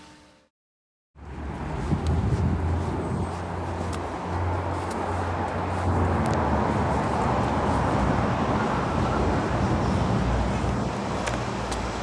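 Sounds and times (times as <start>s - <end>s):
road traffic noise: 1.2s - 12.0s.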